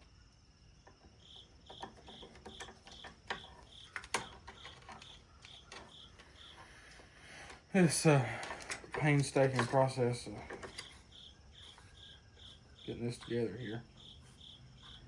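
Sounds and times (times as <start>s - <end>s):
parts clicking and knocking: 0.0s - 15.0s.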